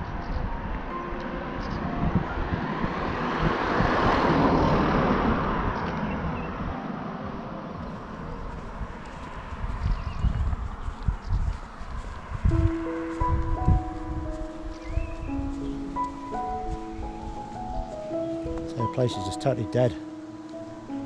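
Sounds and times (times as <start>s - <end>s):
car passing: 0.0s - 21.0s.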